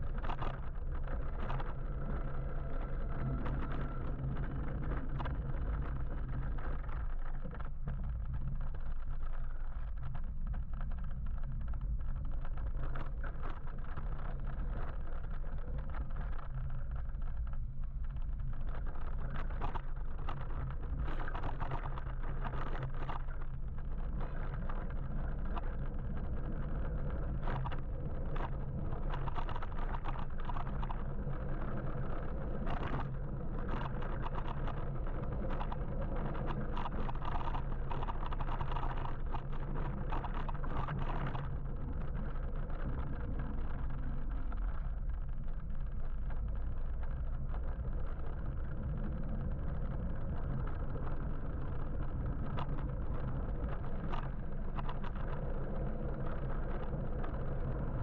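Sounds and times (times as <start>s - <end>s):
low rumble: 0.0s - 58.0s.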